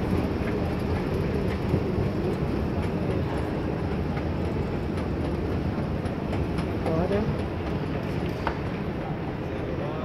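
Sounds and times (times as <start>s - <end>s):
escalator rumbling: 0.0s - 9.3s.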